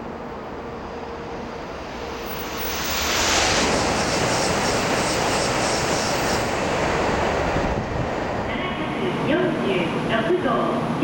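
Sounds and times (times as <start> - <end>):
high-speed train passing: 0.0 - 11.0.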